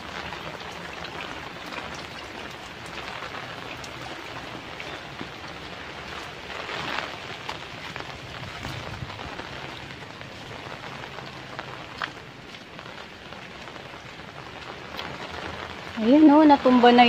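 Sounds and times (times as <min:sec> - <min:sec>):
heavy rain hissing: 0:00.0 - 0:17.0
raindrop taps: 0:00.0 - 0:17.0.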